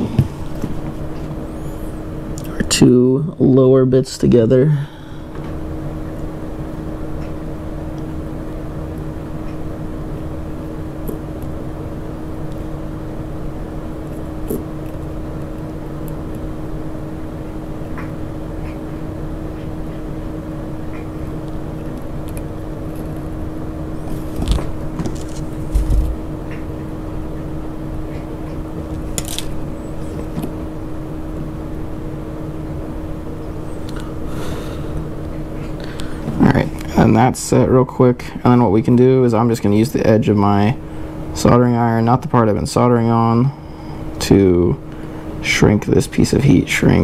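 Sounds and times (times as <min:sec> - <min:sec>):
small fan humming: 0:00.0 - 0:47.0.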